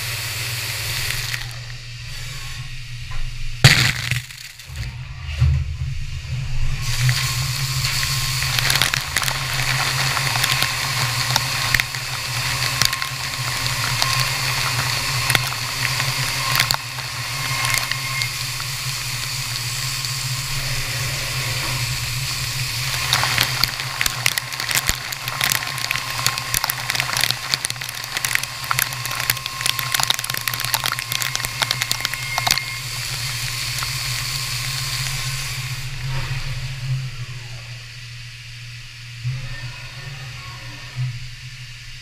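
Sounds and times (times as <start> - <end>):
coolant spraying and splashing: 0.0 - 2.8, 3.6 - 4.7, 6.5 - 36.8
low machine hum: 0.0 - 42.0.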